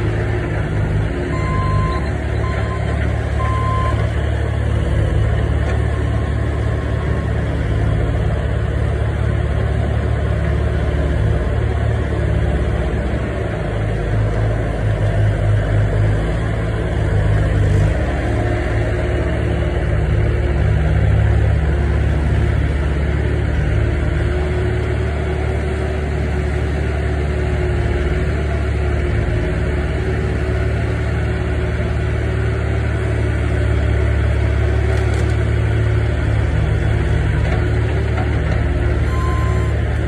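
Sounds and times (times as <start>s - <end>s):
loader engine droning: 0.0s - 40.0s.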